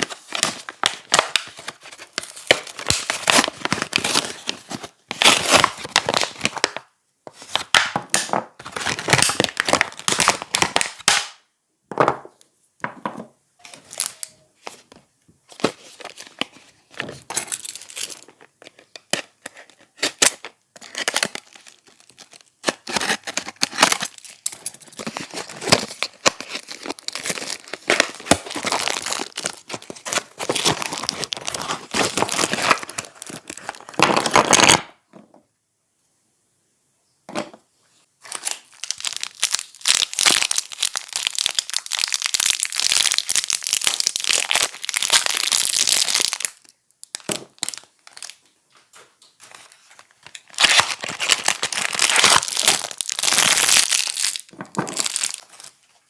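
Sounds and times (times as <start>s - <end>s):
packaging torn and crinkled: 0.0s - 6.8s, 8.6s - 11.3s, 13.7s - 14.4s, 15.5s - 34.9s, 38.2s - 48.5s, 49.4s - 55.8s.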